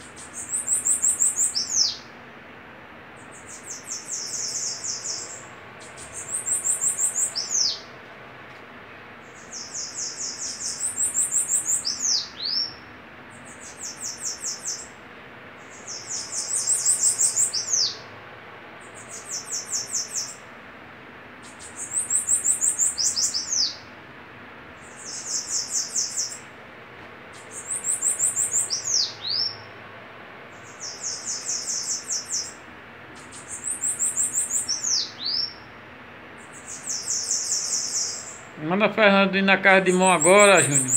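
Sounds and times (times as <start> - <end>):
birds singing buzzy trills: 0.0 - 40.9.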